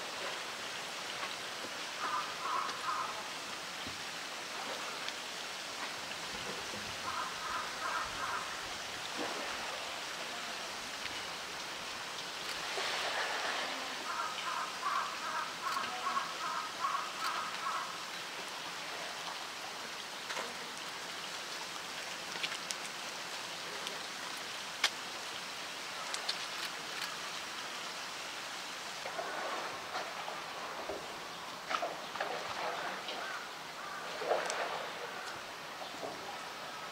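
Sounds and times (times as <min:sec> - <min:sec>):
water sloshing and splashing: 0:00.0 - 0:36.8
steady rush of water: 0:00.0 - 0:36.9.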